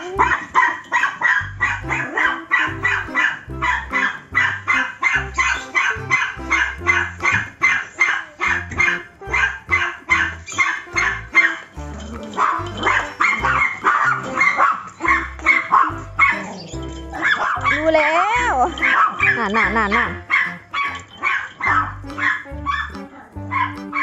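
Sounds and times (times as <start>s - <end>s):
dog barking rapidly: 0.0s - 24.0s
background music with bass line: 1.4s - 7.8s, 8.4s - 24.0s.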